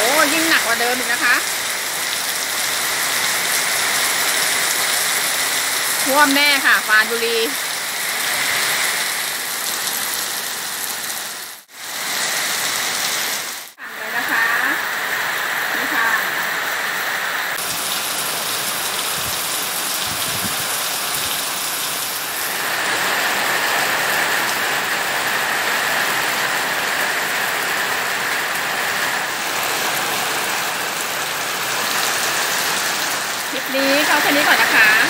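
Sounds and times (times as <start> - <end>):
heavy rain hissing: 0.0 - 35.0.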